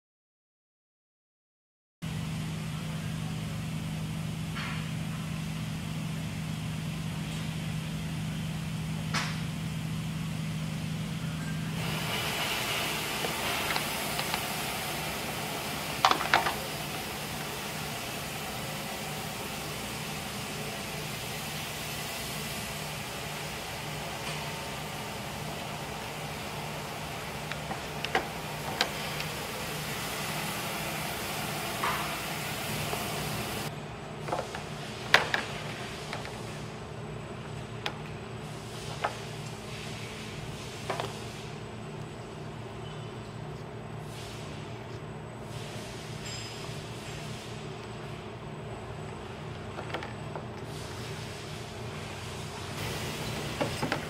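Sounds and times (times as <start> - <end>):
factory machinery humming: 2.0 - 54.0.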